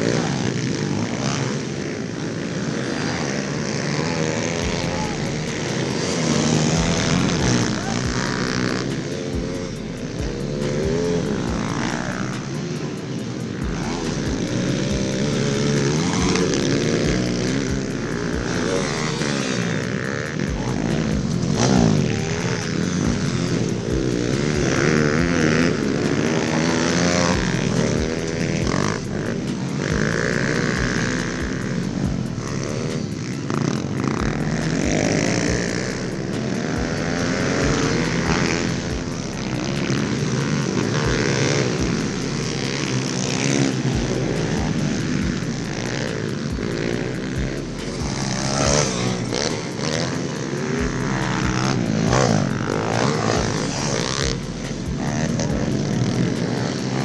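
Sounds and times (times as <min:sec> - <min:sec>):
small motorbike engines revving: 0:00.0 - 0:57.0.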